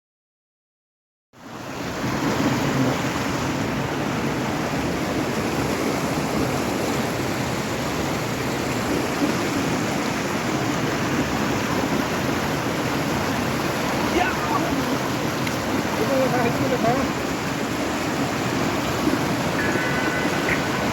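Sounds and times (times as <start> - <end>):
waterfall rushing: 2.4 - 20.9.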